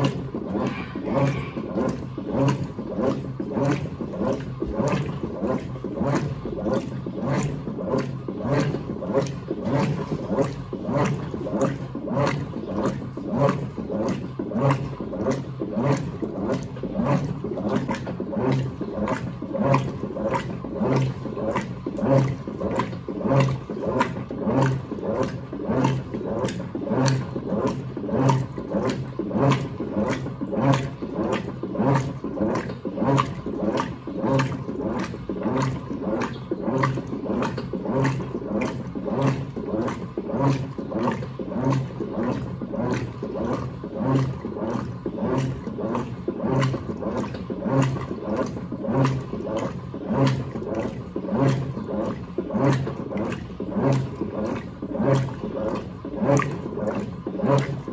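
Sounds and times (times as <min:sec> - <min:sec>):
washing machine motor humming: 0:00.0 - 0:57.9
water sloshing in tub: 0:00.0 - 0:57.9.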